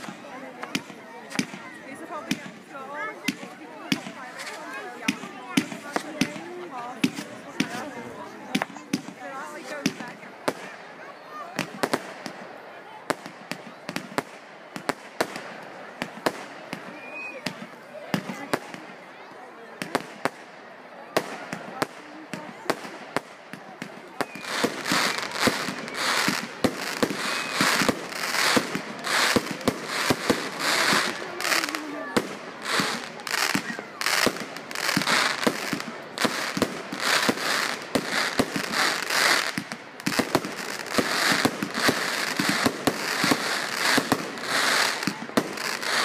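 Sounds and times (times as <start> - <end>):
fireworks bangs: 0.0 - 10.8, 11.6 - 18.9, 19.8 - 46.0
fireworks crackling: 0.0 - 10.9, 11.5 - 19.0, 19.8 - 46.0.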